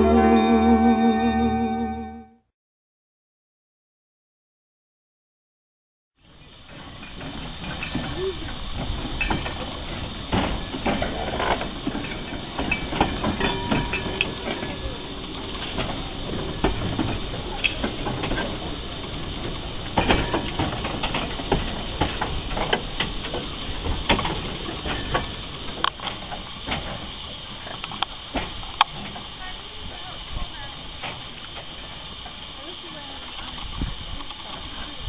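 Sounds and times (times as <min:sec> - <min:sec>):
train rumble: 0:06.2 - 0:35.0
train wheels clicking and clanking: 0:06.3 - 0:35.0.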